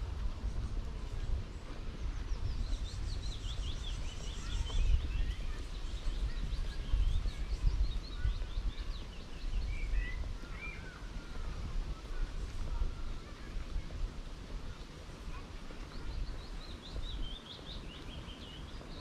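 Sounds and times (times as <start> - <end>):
low irregular rumble: 0.0 - 19.0
songbird singing: 0.1 - 19.0.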